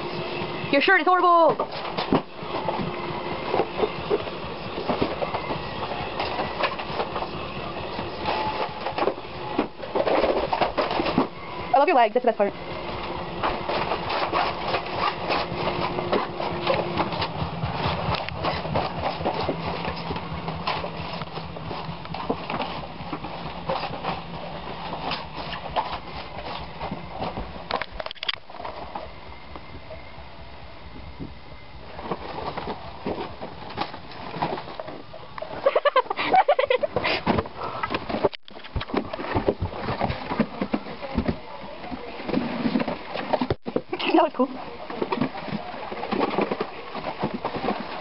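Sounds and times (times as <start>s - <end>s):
cardboard boxes rustling and knocking: 0.0s - 29.2s, 31.9s - 48.0s.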